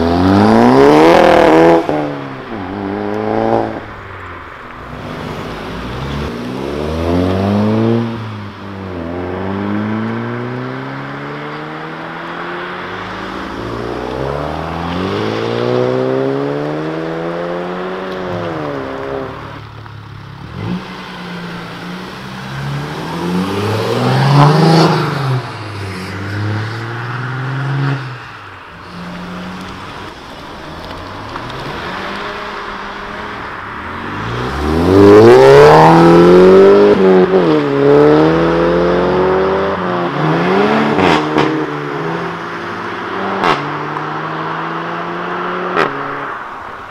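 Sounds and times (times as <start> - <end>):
car engines revving: 0.0 - 46.9.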